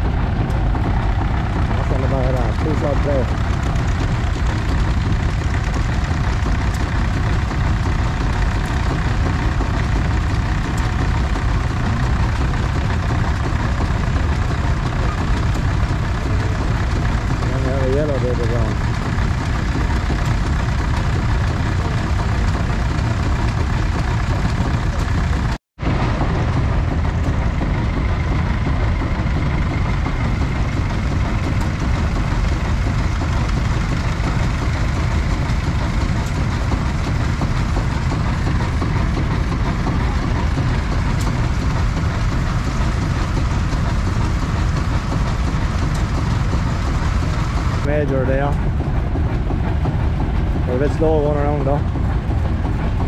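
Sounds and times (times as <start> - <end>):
tractor engines running: 0.0 - 53.0.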